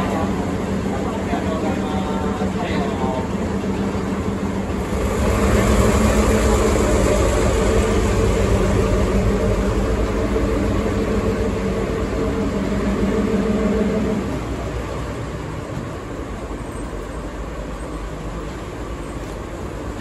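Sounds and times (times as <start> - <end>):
low engine drone: 0.0 - 20.0
train wheels rumbling on rails: 0.0 - 20.0.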